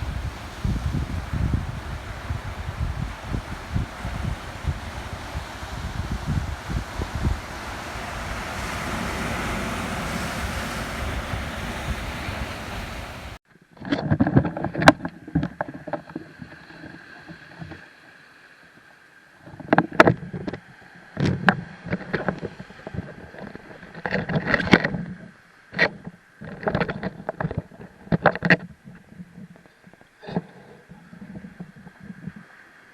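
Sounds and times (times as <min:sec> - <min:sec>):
waves rushing: 0:00.0 - 0:13.4, 0:14.0 - 0:32.9
wind noise on microphone: 0:00.0 - 0:17.8, 0:19.4 - 0:32.9.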